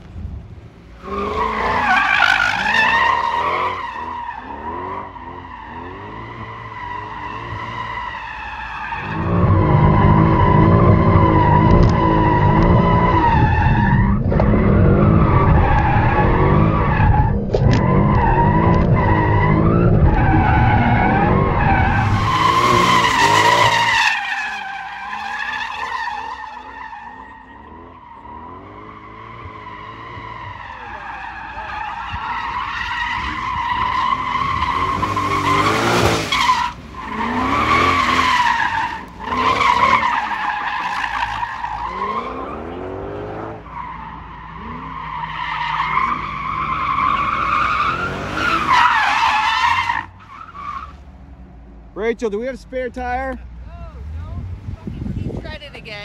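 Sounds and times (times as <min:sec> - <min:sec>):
car engine revving: 0:00.0 - 0:52.1.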